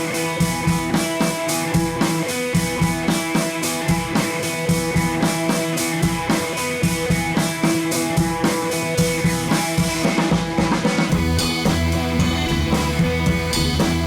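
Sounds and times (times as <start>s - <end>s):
held guitar-like tones: 0.0s - 14.0s
music with drum beat: 0.0s - 14.0s.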